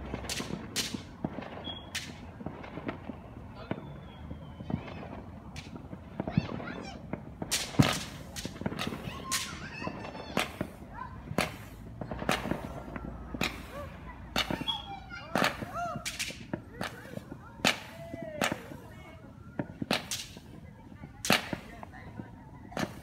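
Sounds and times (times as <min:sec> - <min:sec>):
fireworks cracks and bangs: 0:00.0 - 0:23.0
firework whistles: 0:00.1 - 0:20.6.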